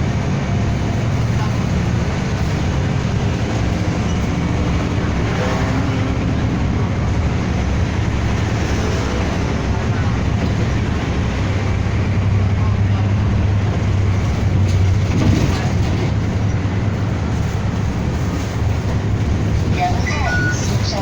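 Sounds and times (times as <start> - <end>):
bus engine and road drone: 0.0 - 21.0.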